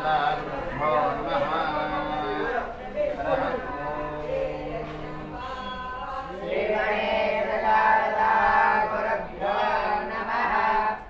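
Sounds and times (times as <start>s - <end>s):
boys chanting in unison: 0.0s - 11.0s.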